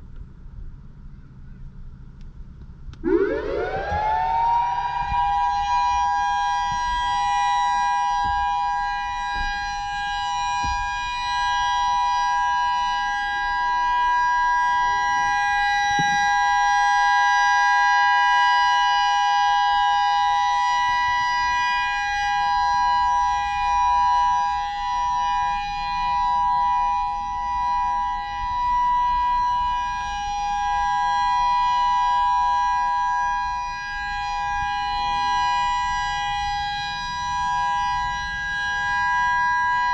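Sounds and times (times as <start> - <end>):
outdoor warning siren two-note tone: 3.0 - 39.9.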